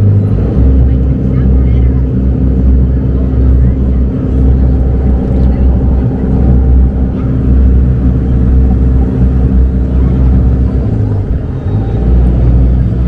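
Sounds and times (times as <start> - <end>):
raft engine humming: 0.0 - 13.0.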